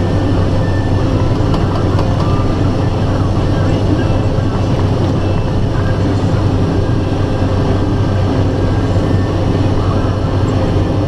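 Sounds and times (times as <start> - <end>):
heavy engine droning: 0.0 - 11.0.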